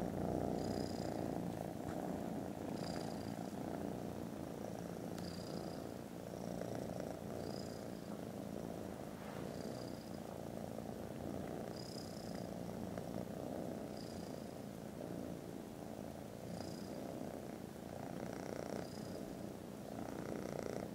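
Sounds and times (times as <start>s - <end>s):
kittens purring: 0.0s - 20.9s.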